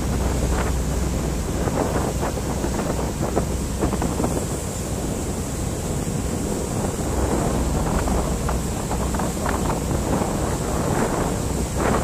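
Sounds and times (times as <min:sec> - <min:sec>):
water rushing and splashing: 0:00.0 - 0:12.0
wind buffeting microphone: 0:00.0 - 0:12.0.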